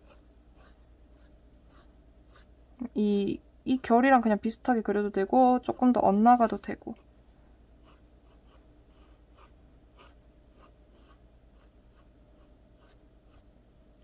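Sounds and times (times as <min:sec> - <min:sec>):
pencil scratching on paper: 0:00.0 - 0:02.5, 0:03.7 - 0:07.1, 0:07.8 - 0:13.4.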